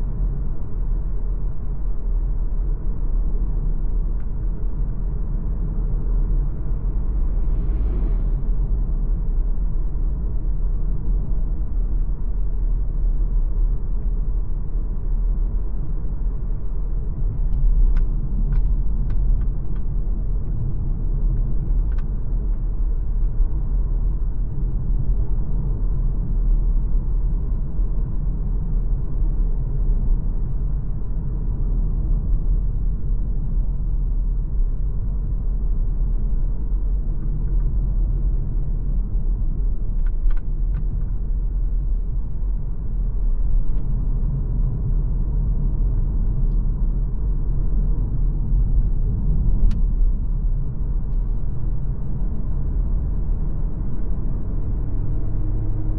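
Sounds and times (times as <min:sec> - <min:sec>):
car driving rumble: 0:00.0 - 0:55.9.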